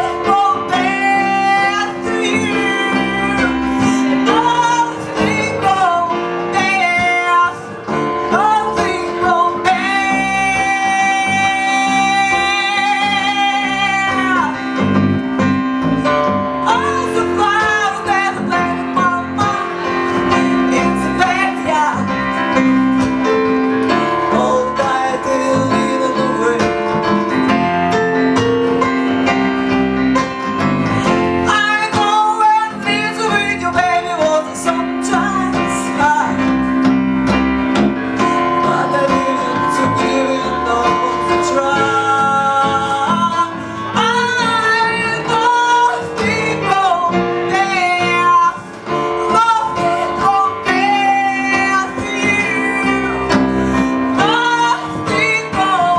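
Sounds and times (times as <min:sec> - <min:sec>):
guitar: 0:00.0 - 0:55.9
keyboard: 0:00.0 - 0:55.9
woman singing: 0:00.0 - 0:55.9.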